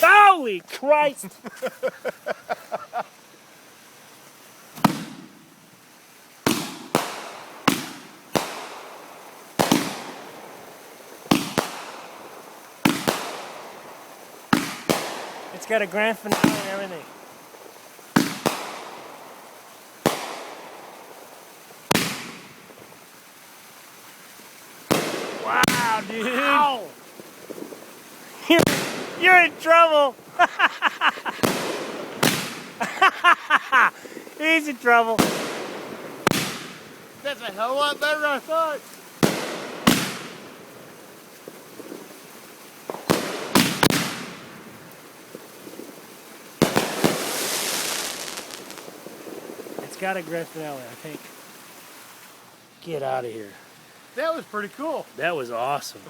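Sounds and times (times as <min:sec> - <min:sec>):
firework bangs: 0:00.0 - 0:03.2, 0:04.7 - 0:23.2, 0:24.6 - 0:52.4
firework crackle and hiss: 0:00.0 - 0:56.0.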